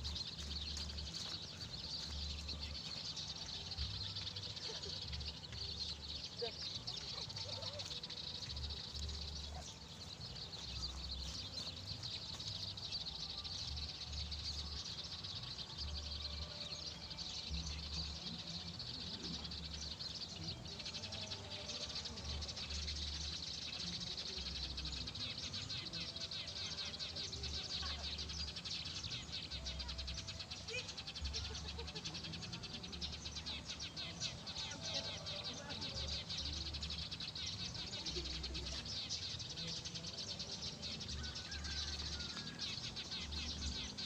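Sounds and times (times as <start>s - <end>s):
bird chirps: 0.0s - 44.0s.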